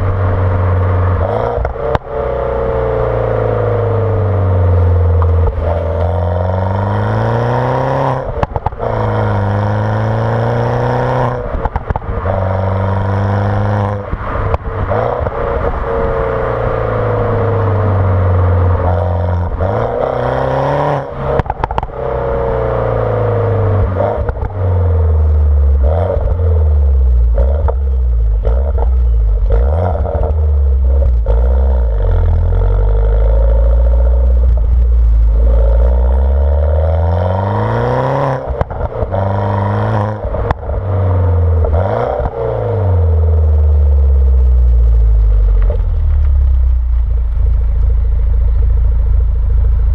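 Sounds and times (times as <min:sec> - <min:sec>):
exhaust pops and crackles: 0:00.0 - 0:02.2, 0:04.9 - 0:16.8, 0:21.0 - 0:22.2, 0:23.6 - 0:49.9
car engine revving: 0:00.0 - 0:49.9.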